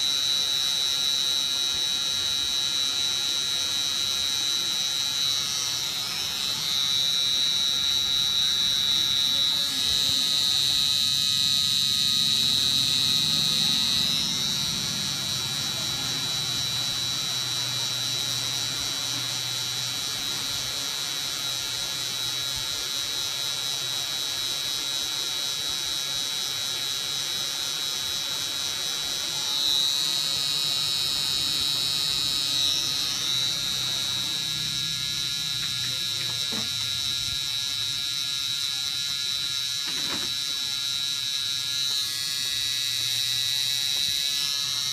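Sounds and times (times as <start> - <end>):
tattoo machine buzzing: 0.0 - 44.9.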